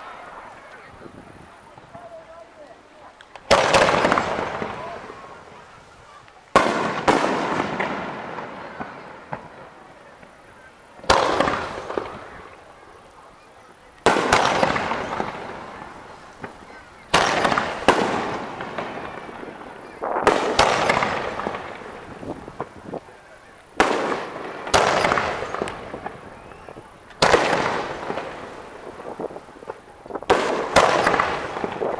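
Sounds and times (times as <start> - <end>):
firework bangs with rolling echo: 0.0 - 31.9.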